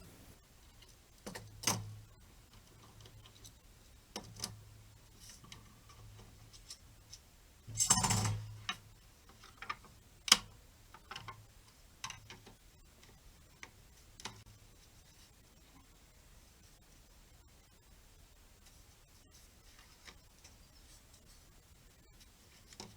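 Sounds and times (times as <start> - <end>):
faint low hum: 0.0 - 22.9.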